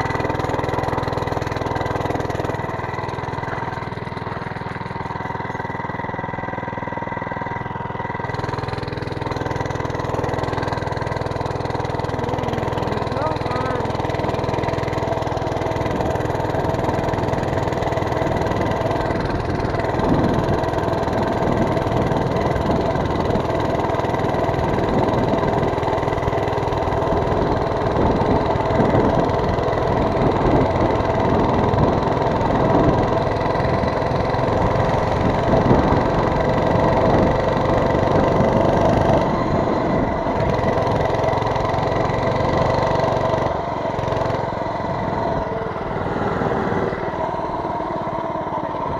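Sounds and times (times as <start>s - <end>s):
small motorbike engine running: 0.0s - 48.9s.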